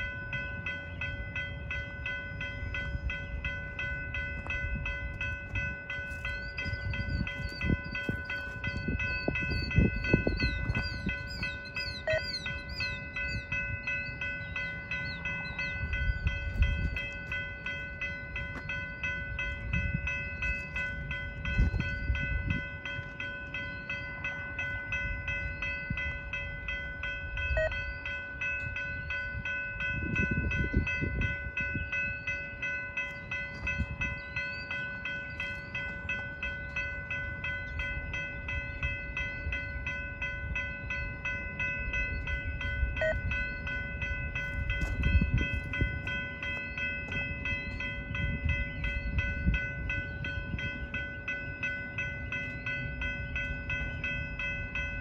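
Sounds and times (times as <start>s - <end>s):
freight train wheels rumbling: 0.0s - 55.0s
high ringing tone: 0.0s - 55.0s.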